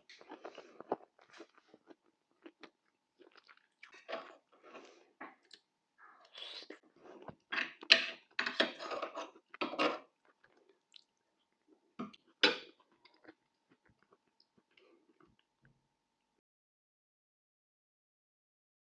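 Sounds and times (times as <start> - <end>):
chewing and crunching food: 0.0 - 15.8.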